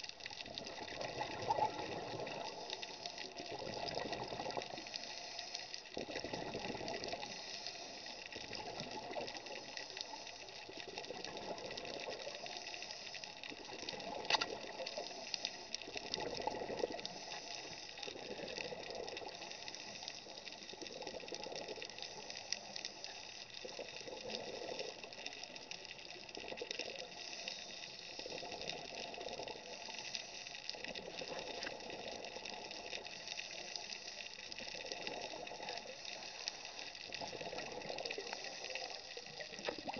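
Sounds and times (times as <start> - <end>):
scuba exhaust bubbles gushing: 0.0 - 23.0, 23.6 - 39.9
steady hiss: 0.0 - 39.9.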